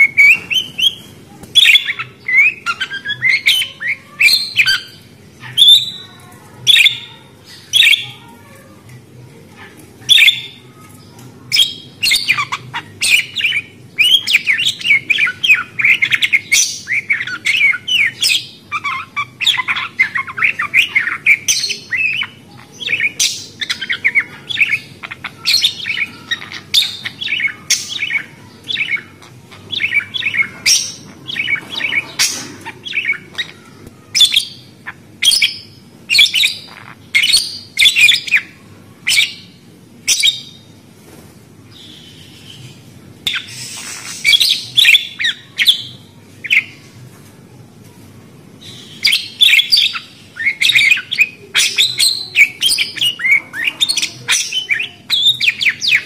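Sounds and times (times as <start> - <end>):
parakeets chirping and chattering: 0.0 - 56.0.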